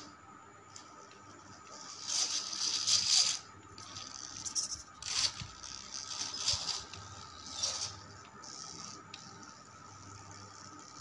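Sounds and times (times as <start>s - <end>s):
rc car motor and tyres scraping: 1.7s - 11.0s.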